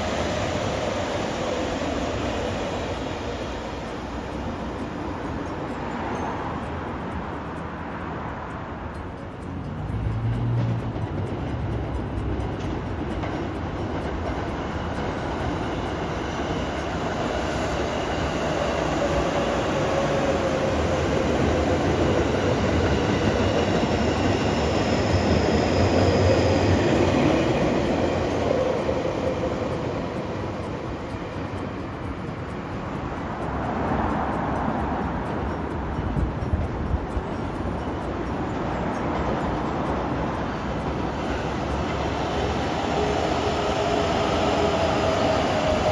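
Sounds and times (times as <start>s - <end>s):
faint high whining tones: 0.0s - 45.9s
train rail rumble: 0.0s - 45.9s.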